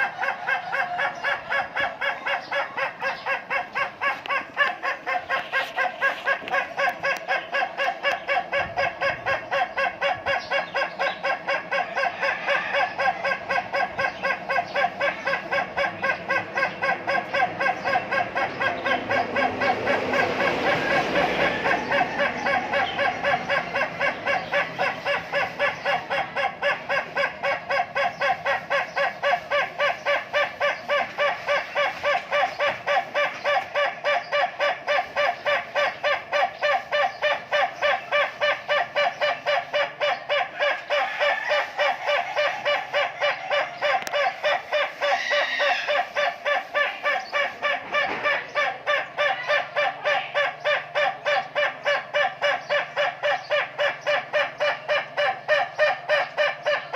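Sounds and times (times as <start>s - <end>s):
fowl calling: 0.0s - 56.9s.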